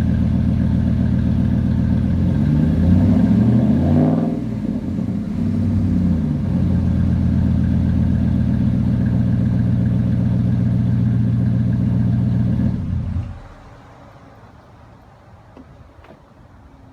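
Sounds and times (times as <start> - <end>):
truck engine revving and idling: 0.0 - 13.7.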